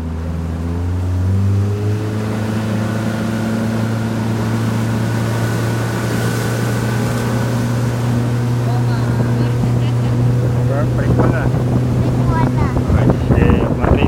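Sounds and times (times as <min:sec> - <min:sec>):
motorboat engine: 0:00.0 - 0:14.0.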